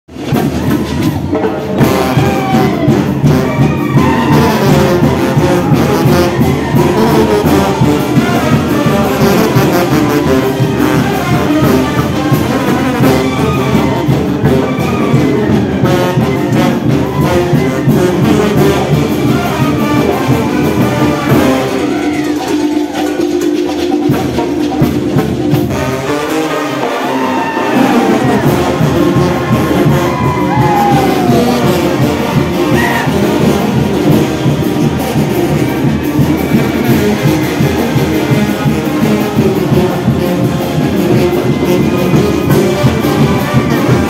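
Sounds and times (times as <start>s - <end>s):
brass band playing lively tune: 0.0s - 44.0s.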